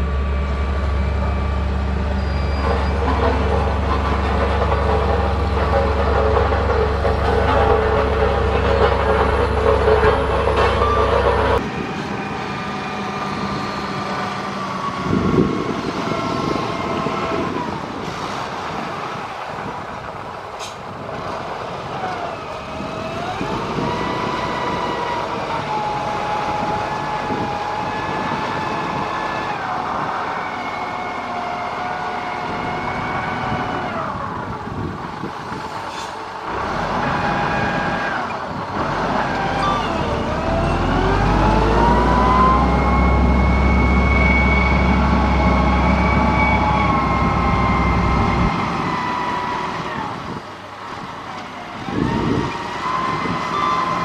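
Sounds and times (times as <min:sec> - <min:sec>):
diesel engine whining: 0:00.0 - 0:54.0.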